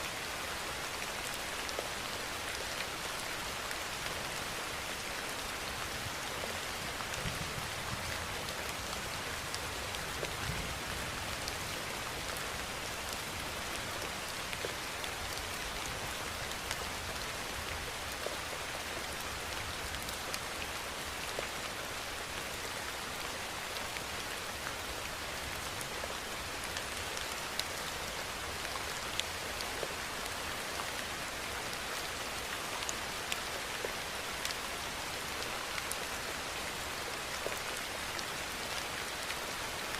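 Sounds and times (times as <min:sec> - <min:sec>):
steady rain hiss: 0:00.0 - 0:39.9
raindrops ticking on a surface: 0:00.1 - 0:39.9.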